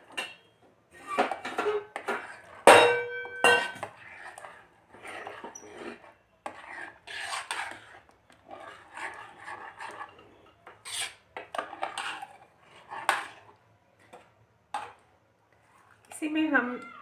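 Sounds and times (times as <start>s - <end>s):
metal spoon scraping pot: 0.0s - 15.0s.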